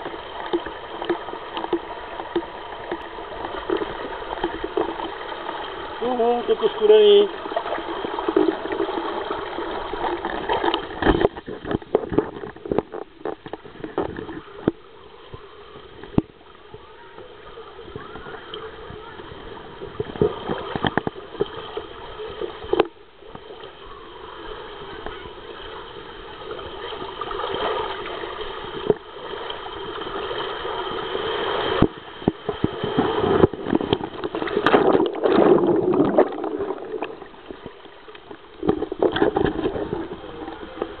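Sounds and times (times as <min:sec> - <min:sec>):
water rushing down slide: 0:00.0 - 0:41.0.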